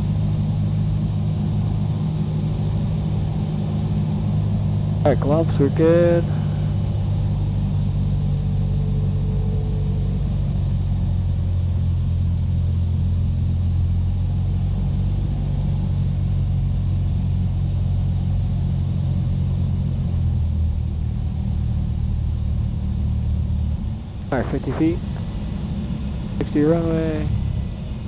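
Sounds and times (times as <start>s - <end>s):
aircraft engine and propeller droning: 0.0s - 28.0s.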